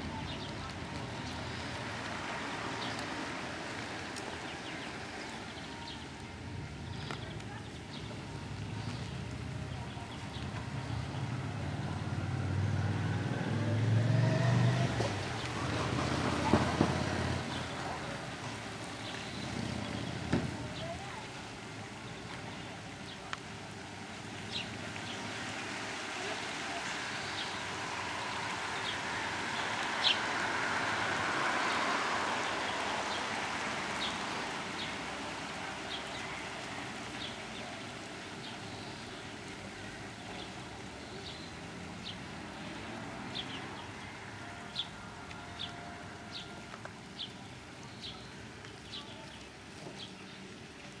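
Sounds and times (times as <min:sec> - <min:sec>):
outdoor town noise hiss: 0:00.0 - 0:51.0.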